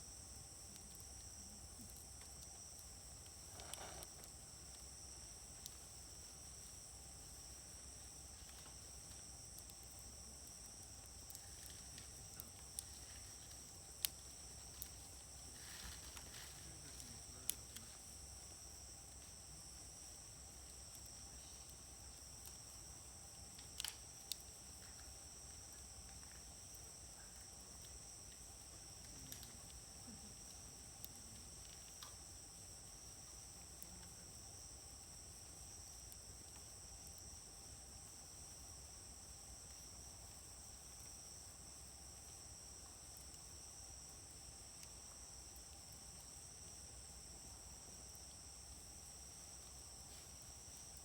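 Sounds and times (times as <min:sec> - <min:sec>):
crickets chirring: 0:00.0 - 0:51.0
wood fire crackling and popping: 0:00.0 - 0:51.0.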